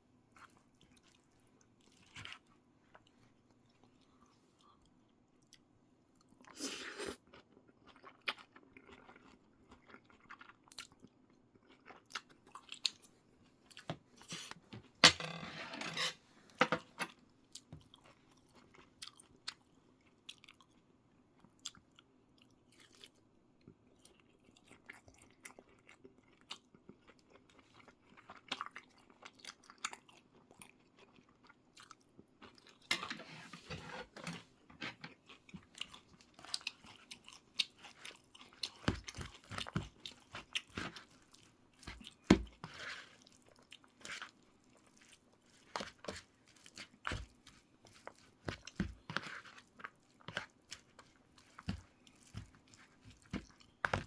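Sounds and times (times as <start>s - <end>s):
person chewing and crunching food: 0.3s - 15.0s, 16.9s - 33.2s, 33.9s - 54.0s.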